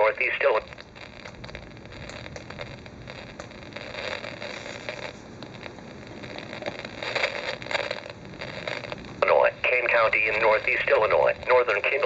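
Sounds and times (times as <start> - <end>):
crackles and clicks: 0.0 - 12.0
radio static hiss: 0.0 - 12.0.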